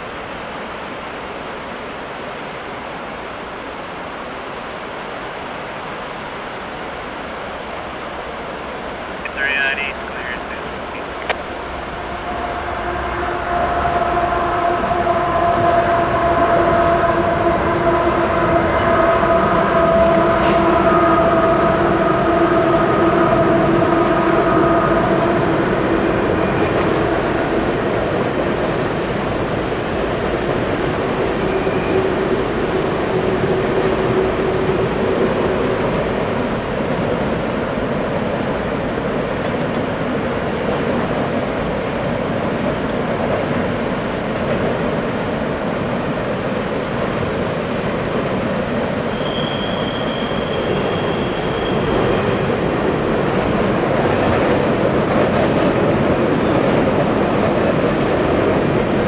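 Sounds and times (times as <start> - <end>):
train wheels rumbling on rail: 10.1 - 59.0.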